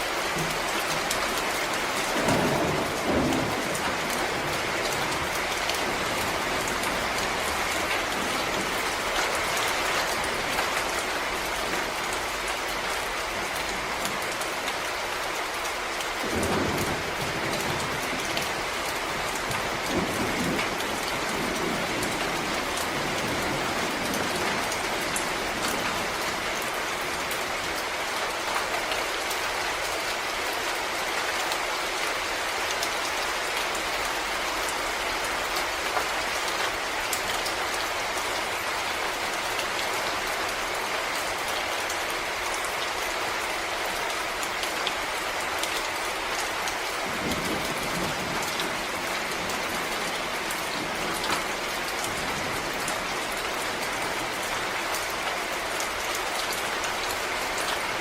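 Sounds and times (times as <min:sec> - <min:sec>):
rain falling in a forest: 0:00.0 - 0:58.0
raindrops pattering on leaves: 0:00.0 - 0:58.0.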